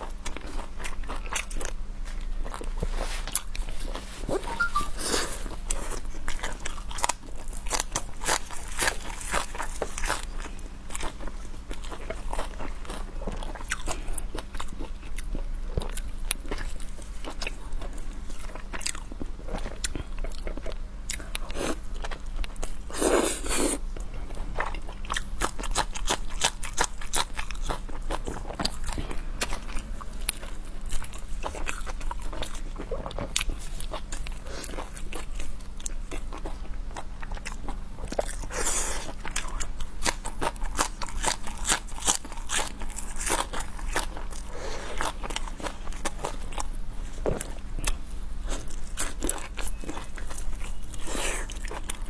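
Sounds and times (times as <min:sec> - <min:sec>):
crunchy bites and chewing: 0:05.0 - 0:52.0.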